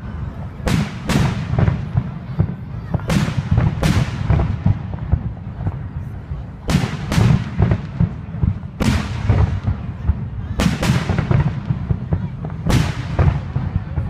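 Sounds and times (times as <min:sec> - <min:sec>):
fireworks bursting with echo: 0:00.0 - 0:14.0.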